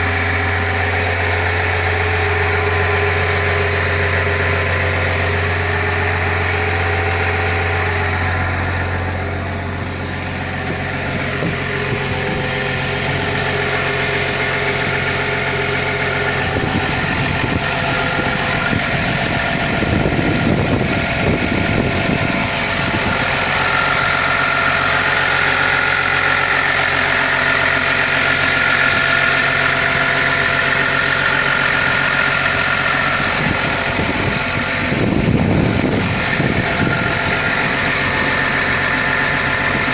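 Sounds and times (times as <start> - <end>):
excavator diesel engine running: 0.0 - 39.9
steady high whine: 0.0 - 39.9.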